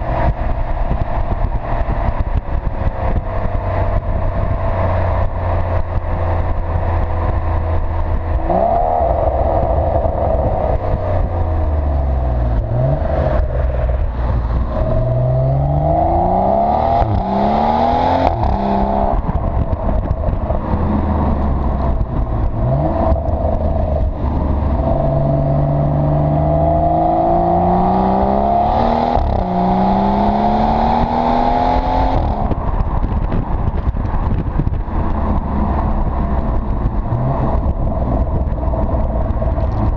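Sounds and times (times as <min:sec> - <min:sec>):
car engine accelerating: 0:00.0 - 0:39.9
road rumble: 0:00.0 - 0:39.9
wind noise: 0:00.0 - 0:39.9.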